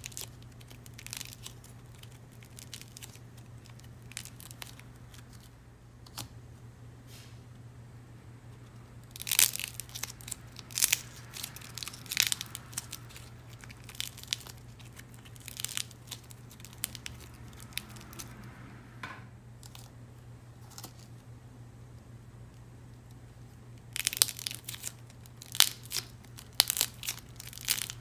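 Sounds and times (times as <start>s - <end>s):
dried clay crackling and snapping: 0.0s - 6.4s, 8.5s - 18.5s, 19.6s - 21.3s, 22.4s - 28.0s.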